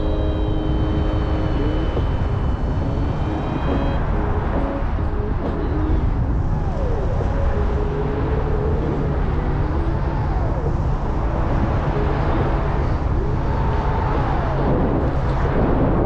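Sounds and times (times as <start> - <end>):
faint whistling tones: 0.0 - 15.8
wind buffeting microphone: 0.0 - 16.0.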